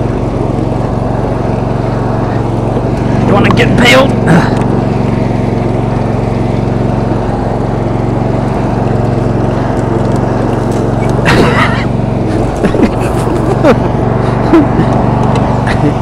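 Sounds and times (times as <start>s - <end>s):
lawn tractor engine running: 0.0s - 16.0s.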